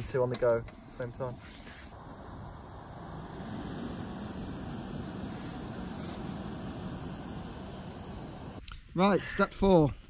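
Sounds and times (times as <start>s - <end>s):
gas stove rushing hiss: 0.0s - 8.6s.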